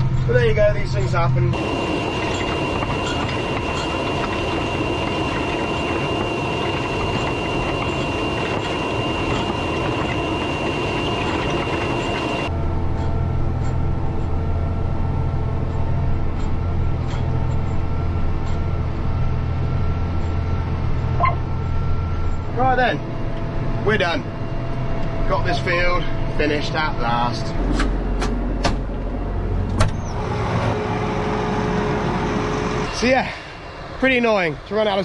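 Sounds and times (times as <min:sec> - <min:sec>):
steady high whine: 0:00.0 - 0:35.0
tractor engine low drone: 0:00.0 - 0:35.0.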